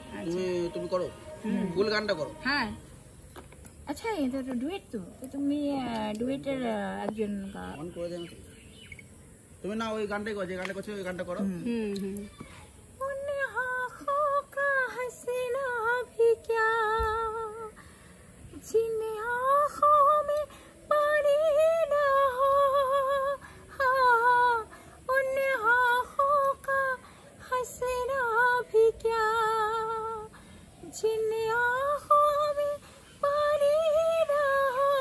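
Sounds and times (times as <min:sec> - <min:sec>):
woman singing unaccompanied: 0:00.0 - 0:03.2, 0:03.8 - 0:08.4, 0:11.4 - 0:17.9, 0:18.5 - 0:35.0.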